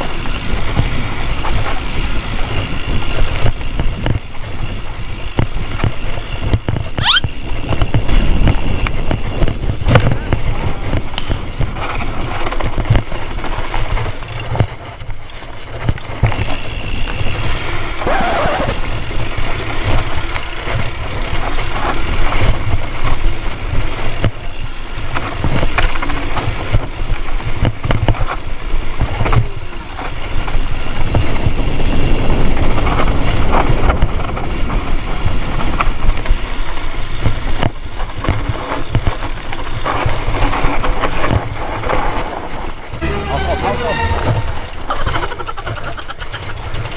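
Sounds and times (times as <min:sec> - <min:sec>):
wind noise on microphone: 0:00.0 - 0:24.4, 0:25.1 - 0:42.6
bike clattering and rattling: 0:00.0 - 0:46.9.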